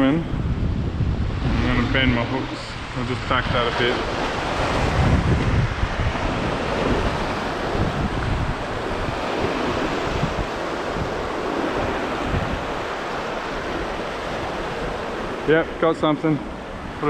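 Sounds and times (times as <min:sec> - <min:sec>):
wind buffeting microphone: 0:00.0 - 0:17.0
surf breaking against rocks: 0:01.1 - 0:15.6.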